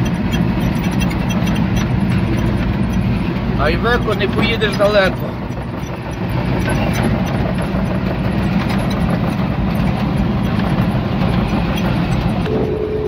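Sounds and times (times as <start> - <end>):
trucks passing: 0.0 - 13.0
vehicle engine and road noise: 0.0 - 13.0.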